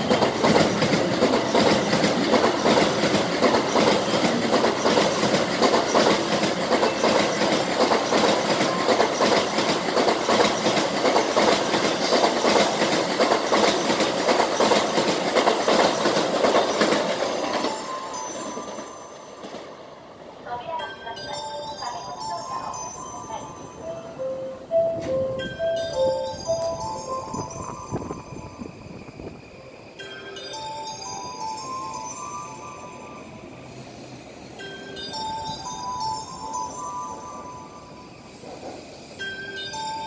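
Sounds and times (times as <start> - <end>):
train passing with wheel clatter: 0.0 - 40.0.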